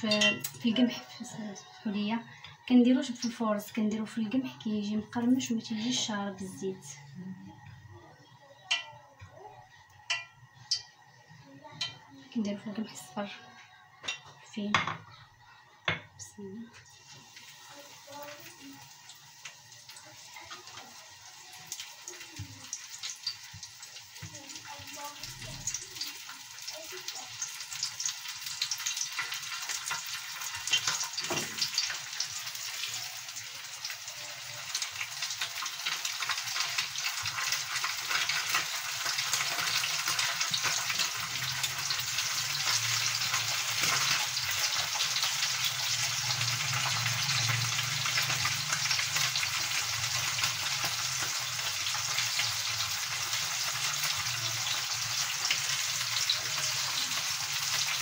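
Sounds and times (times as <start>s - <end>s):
fish sizzling in hot oil: 0.0s - 7.0s, 8.6s - 13.3s, 15.8s - 58.0s.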